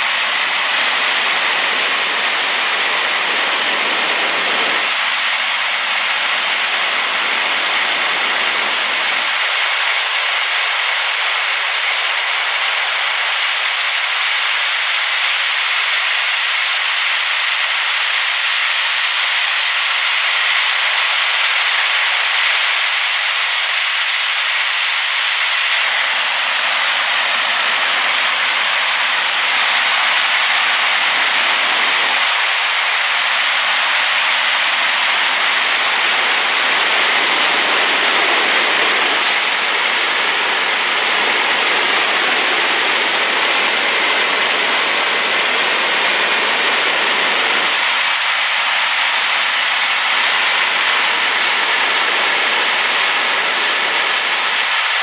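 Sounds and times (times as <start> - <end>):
waterfall rushing: 0.0 - 14.5, 25.2 - 55.0.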